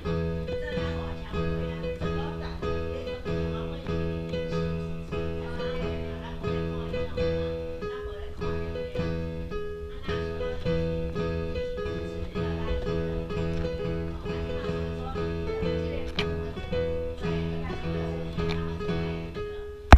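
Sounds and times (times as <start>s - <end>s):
plucked guitar music: 0.0s - 19.9s.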